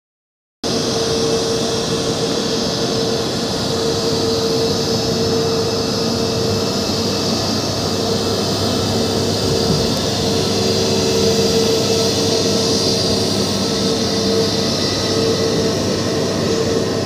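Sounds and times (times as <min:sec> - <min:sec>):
jet engines at taxi power: 0:00.6 - 0:17.0.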